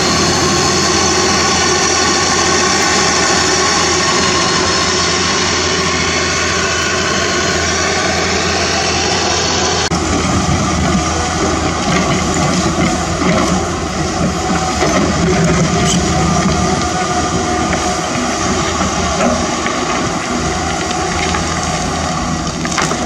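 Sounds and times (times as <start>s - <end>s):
dump truck diesel engine driving: 0.0s - 23.0s
excavator diesel engine running: 0.0s - 23.0s.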